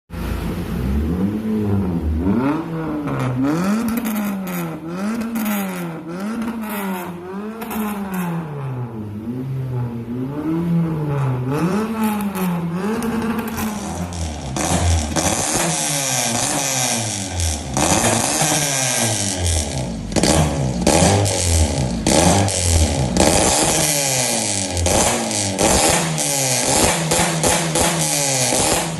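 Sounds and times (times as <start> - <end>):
car engine revving: 0.1 - 28.9.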